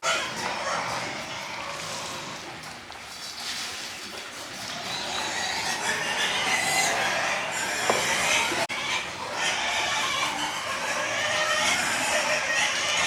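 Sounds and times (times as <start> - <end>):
farm animals calling: 0.0 - 2.7, 4.6 - 13.0.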